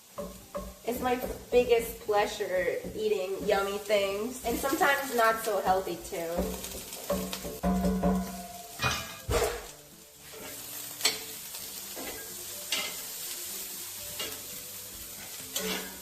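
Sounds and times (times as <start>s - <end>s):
meat sizzling in a pan: 0.0s - 16.0s
utensil scraping a pan: 1.2s - 13.1s, 14.0s - 16.0s.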